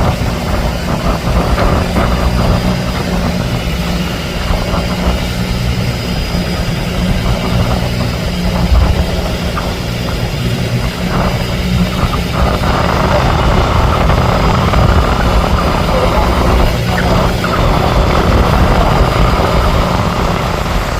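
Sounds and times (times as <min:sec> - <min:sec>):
boat engine droning: 0:00.0 - 0:20.9.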